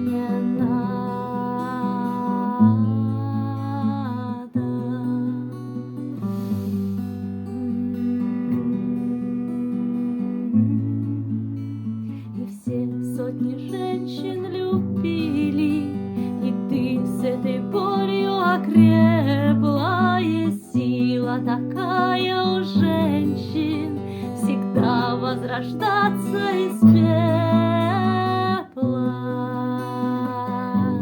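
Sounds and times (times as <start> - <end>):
plucked acoustic guitar: 0.0 - 31.0.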